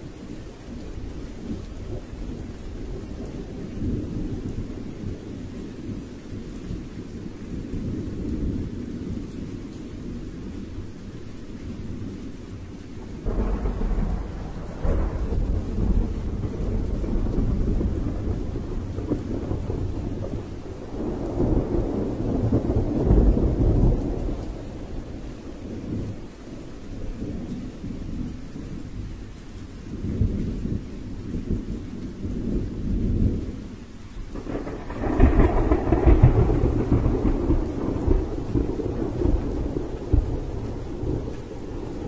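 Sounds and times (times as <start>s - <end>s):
low rumbling storm: 0.0s - 42.0s.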